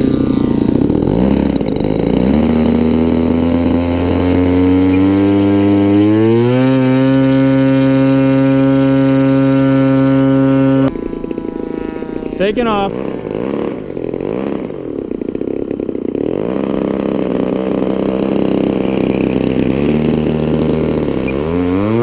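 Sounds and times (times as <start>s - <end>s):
model airplane engine revving: 0.0s - 22.0s.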